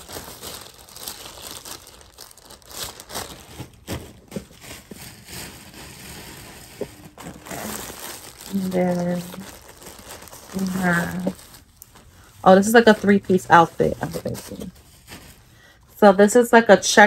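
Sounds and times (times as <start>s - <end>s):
plastic bags crinkling: 0.0s - 15.9s.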